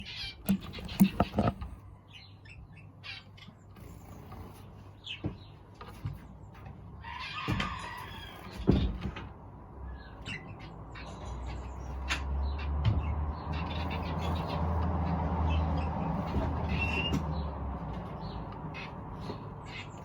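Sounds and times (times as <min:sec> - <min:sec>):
birds chirping: 0:00.0 - 0:09.0, 0:09.8 - 0:20.0.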